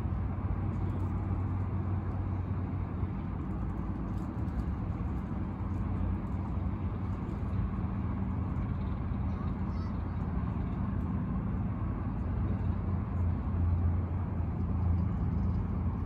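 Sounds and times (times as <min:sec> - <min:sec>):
distant road traffic drone: 0:00.0 - 0:16.0
low hum: 0:00.0 - 0:16.0.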